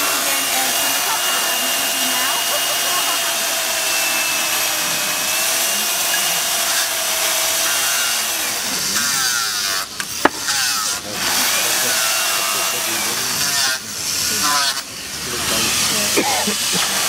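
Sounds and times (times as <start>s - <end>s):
electric chainsaw cutting ice: 0.0s - 17.0s.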